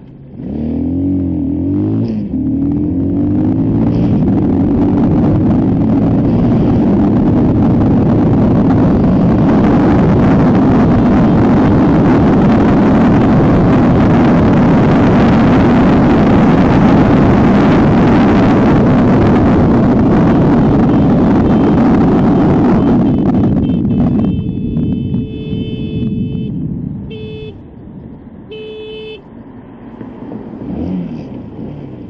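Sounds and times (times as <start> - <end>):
road noise: 0.0 - 32.0
vehicle engine hum: 0.0 - 32.0.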